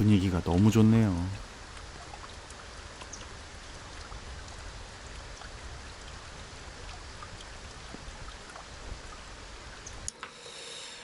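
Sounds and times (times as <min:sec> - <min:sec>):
raindrops ticking close by: 0:00.0 - 0:10.2
steady rain hiss: 0:00.0 - 0:11.0.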